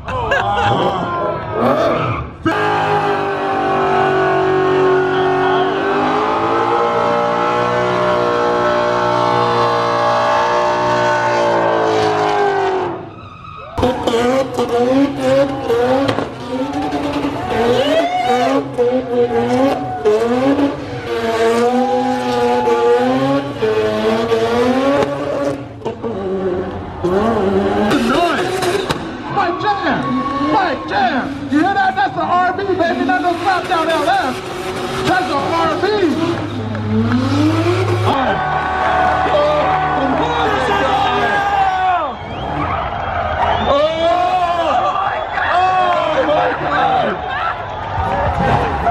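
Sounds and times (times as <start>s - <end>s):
car engine revving: 0.6s - 13.2s, 13.8s - 48.9s.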